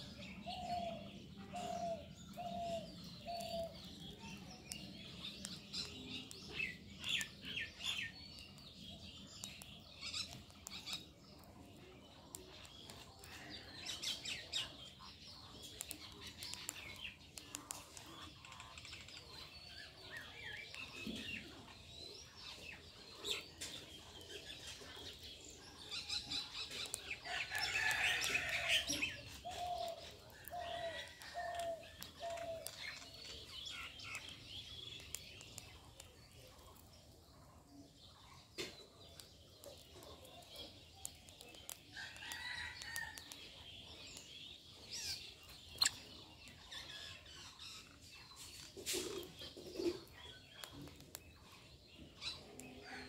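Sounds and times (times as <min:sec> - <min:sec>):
birds chirping and calling: 0:00.0 - 0:53.0.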